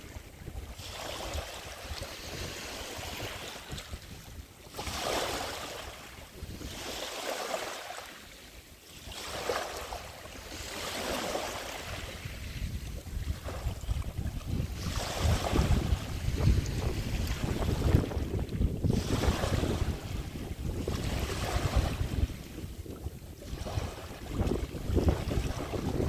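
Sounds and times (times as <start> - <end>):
small waves on pebbly beach: 0.0 - 26.0.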